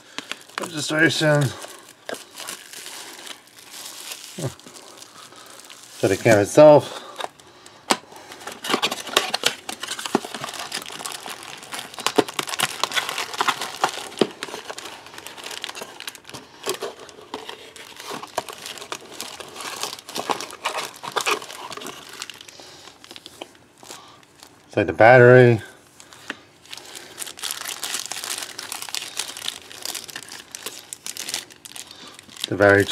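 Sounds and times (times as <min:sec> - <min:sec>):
plastic packaging crinkling: 0:00.0 - 0:24.7, 0:25.9 - 0:32.9.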